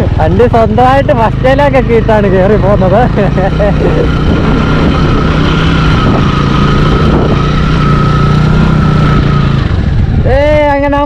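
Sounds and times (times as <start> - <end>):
motorcycle engine pulling: 0.0 - 11.0.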